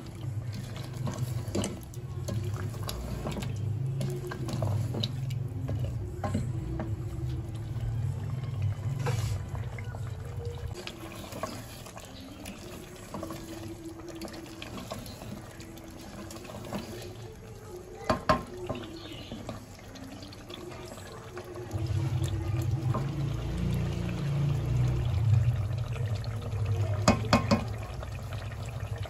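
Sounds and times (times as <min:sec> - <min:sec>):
gravy bubbling and sizzling in a pot: 0:00.0 - 0:29.0
wooden spoon stirring and scraping: 0:00.0 - 0:29.0.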